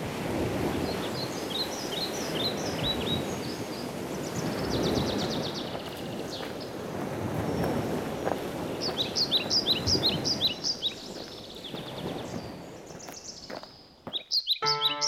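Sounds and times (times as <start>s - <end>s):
small birds chirping: 0.8s - 6.8s, 7.4s - 15.0s.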